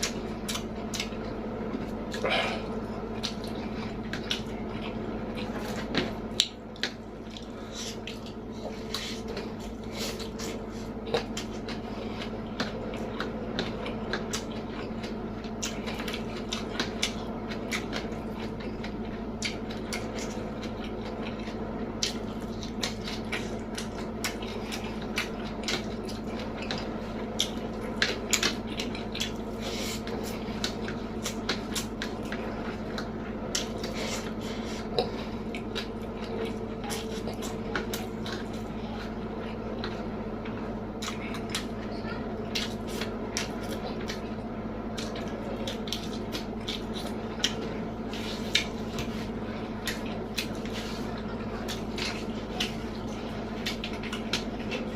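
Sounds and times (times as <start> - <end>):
chewing and mouth sounds: 0.0 - 54.9
steady low hum: 0.0 - 54.9.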